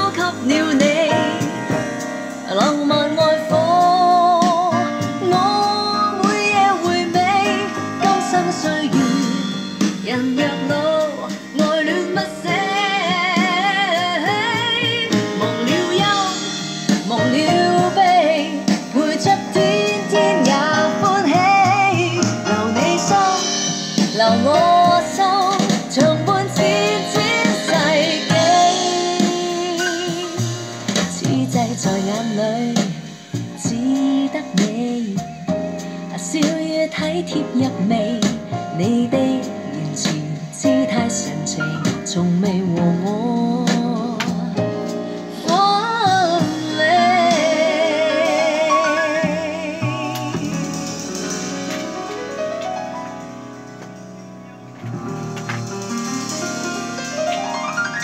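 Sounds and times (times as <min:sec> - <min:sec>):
instrumental backing: 0:00.0 - 0:58.0
person singing: 0:02.4 - 0:51.0.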